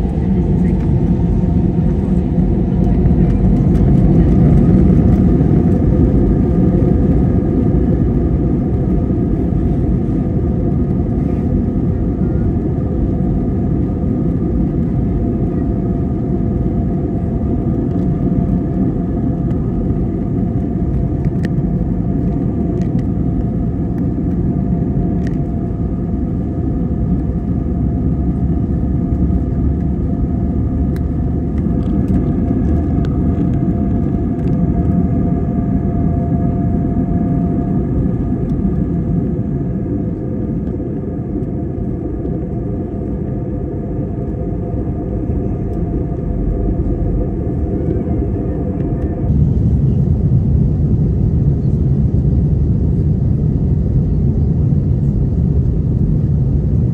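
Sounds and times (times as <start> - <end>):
jet engines humming: 0.0 - 56.9
wheels rumbling on taxiway: 0.0 - 56.9.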